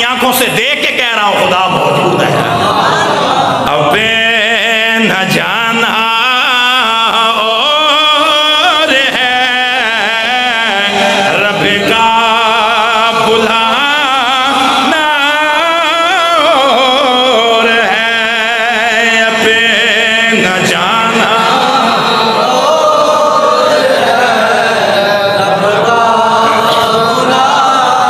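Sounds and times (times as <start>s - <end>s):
man chanting: 0.0s - 2.7s, 3.6s - 28.0s.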